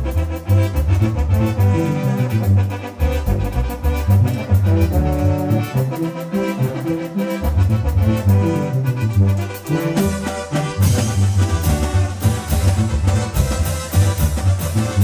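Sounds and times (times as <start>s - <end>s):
heavy bass line: 0.0s - 15.0s
keyboard melody: 0.0s - 15.0s
steady drum beat: 0.0s - 15.0s.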